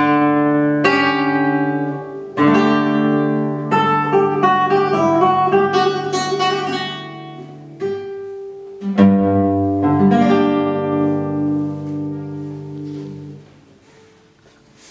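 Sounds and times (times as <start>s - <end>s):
classical guitar playing: 0.0s - 14.9s.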